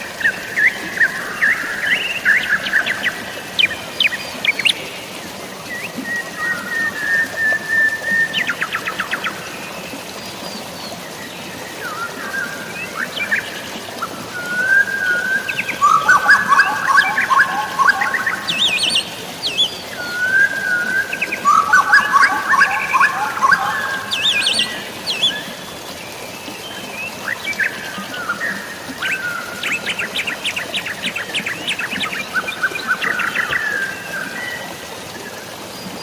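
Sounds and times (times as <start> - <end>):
birds singing: 0.0 - 5.0, 10.2 - 36.0
hiss of rain or water: 0.0 - 36.0.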